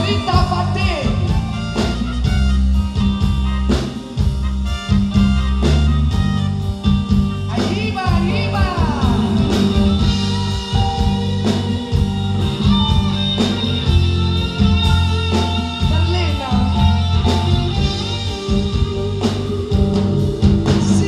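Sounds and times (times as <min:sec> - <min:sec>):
drums steady beat: 0:00.0 - 0:21.0
live band playing: 0:00.0 - 0:21.0.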